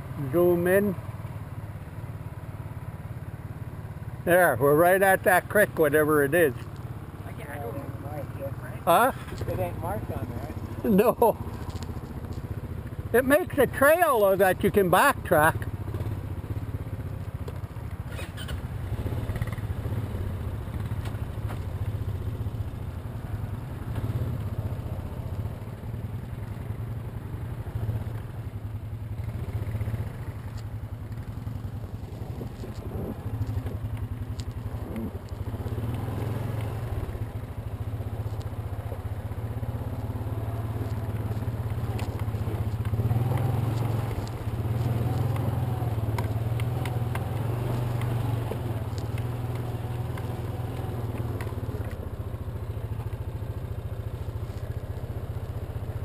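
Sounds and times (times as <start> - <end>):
atv engine running at low speed: 0.0 - 56.0.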